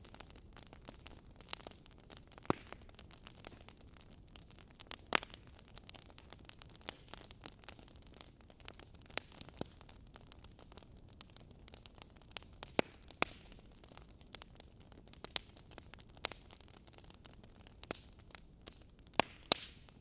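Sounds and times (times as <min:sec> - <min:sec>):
fire hiss: 0:00.0 - 0:20.0
logs crackling and popping: 0:00.0 - 0:20.0.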